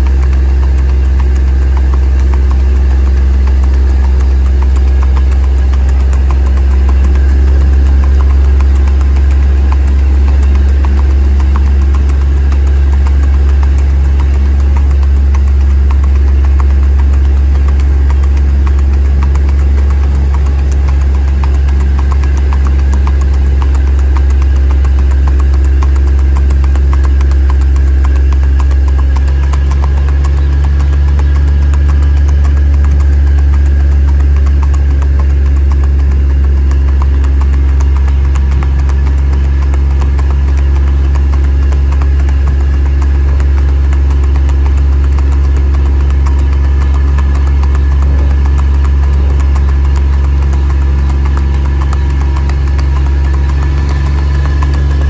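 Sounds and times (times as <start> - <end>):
horse hooves on pavement: 0.0 - 55.0
vehicle engine drone: 0.0 - 55.0.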